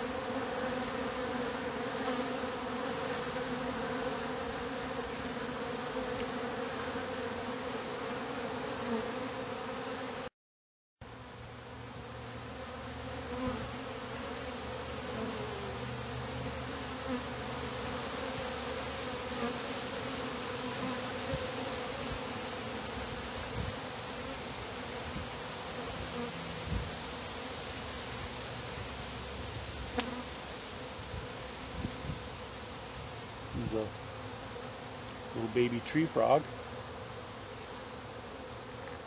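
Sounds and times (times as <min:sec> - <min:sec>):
honey bees buzzing: 0:00.0 - 0:10.3, 0:11.1 - 0:39.0.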